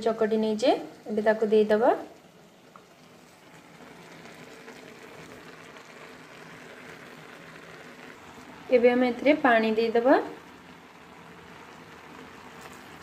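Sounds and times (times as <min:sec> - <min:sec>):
food sizzling in pan: 0:00.0 - 0:13.0.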